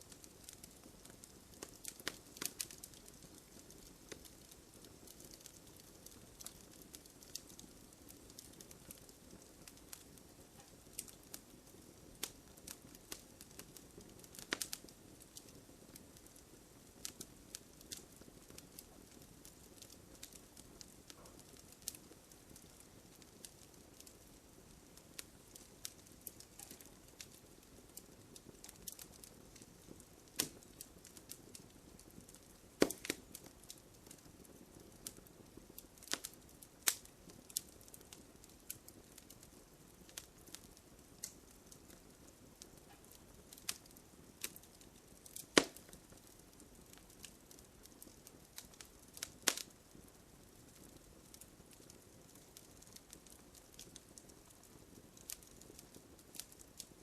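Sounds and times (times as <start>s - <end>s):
campfire crackling: 0.0s - 57.0s
fire snaps and pops: 0.0s - 57.0s.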